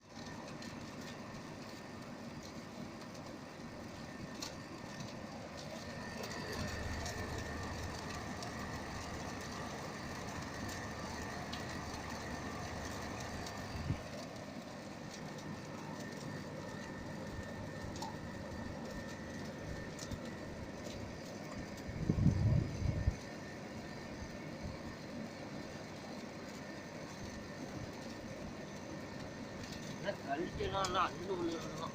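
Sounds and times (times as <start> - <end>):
faint high whine: 0.0 - 31.9
mechanical running noise: 0.0 - 31.9.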